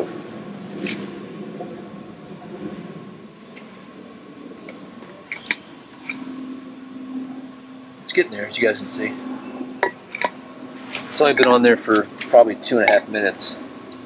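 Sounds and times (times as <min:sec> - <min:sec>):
high-pitched insect chorus: 0:00.0 - 0:14.0
low hum: 0:00.0 - 0:14.0.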